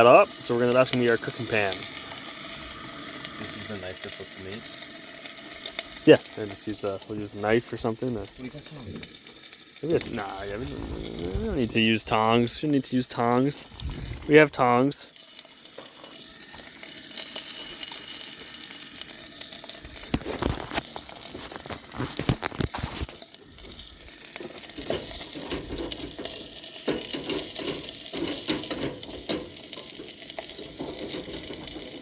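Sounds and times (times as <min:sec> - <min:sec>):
fat sizzling and crackling: 0:00.0 - 0:32.0.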